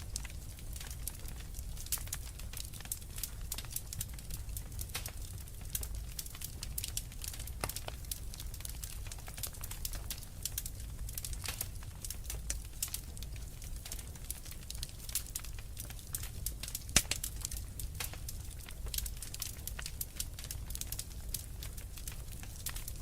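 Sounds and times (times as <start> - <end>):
fire low rumble: 0.0 - 23.0
wood fire crackling: 0.0 - 23.0.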